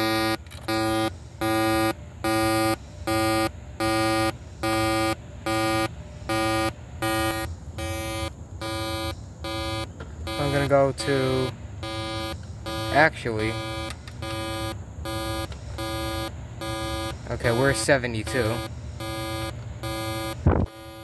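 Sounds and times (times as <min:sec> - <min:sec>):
evenly paced beeps: 0:00.0 - 0:21.0.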